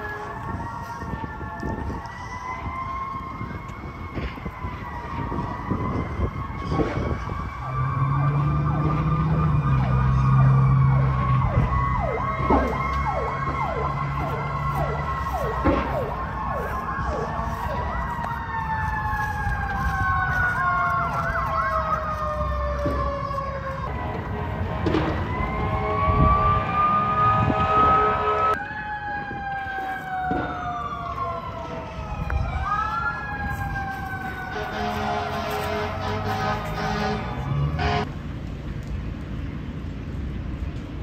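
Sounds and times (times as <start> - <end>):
wailing siren: 0.0 - 38.1
yelping siren: 0.0 - 38.1.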